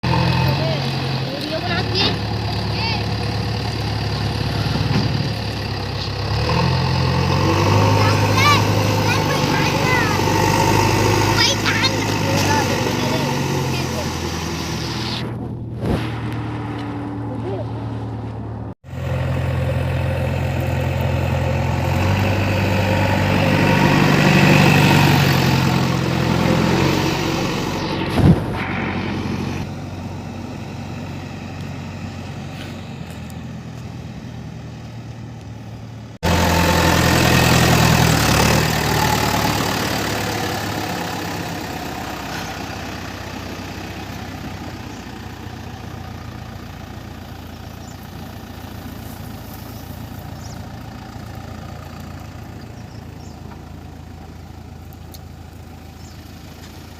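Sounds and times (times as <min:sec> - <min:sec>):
backhoe diesel engine revving: 0:00.0 - 0:56.9.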